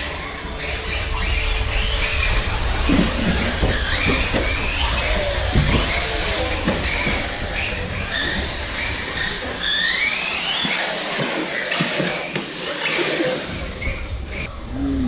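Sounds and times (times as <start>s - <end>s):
electric motor whine rising: 0.0s - 14.5s
steady rushing noise: 0.0s - 15.0s.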